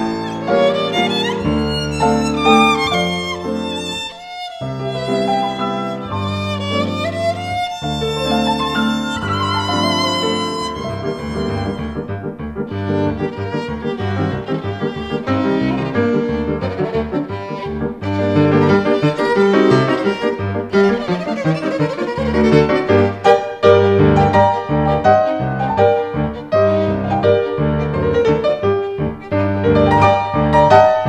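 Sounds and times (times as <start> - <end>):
piano accompaniment: 0.0 - 31.0
violin melody: 0.0 - 31.0.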